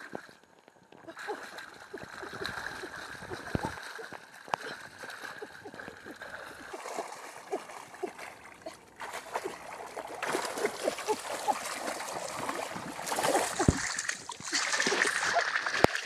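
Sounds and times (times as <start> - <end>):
hands splashing in muddy water: 1.3 - 16.0.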